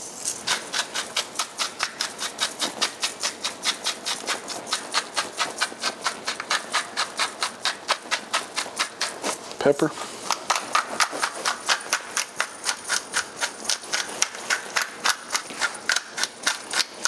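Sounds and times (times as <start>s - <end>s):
seasoning mill grinding: 0.0s - 17.0s.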